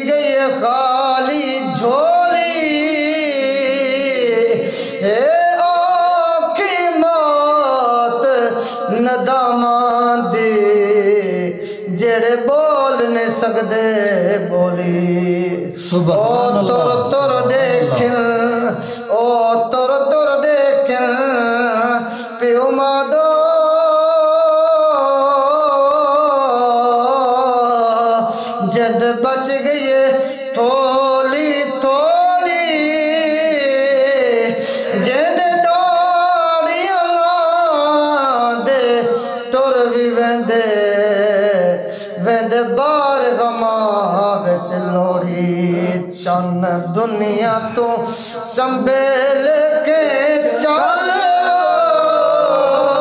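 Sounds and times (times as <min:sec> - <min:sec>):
man singing devotional song: 0:00.0 - 0:53.0.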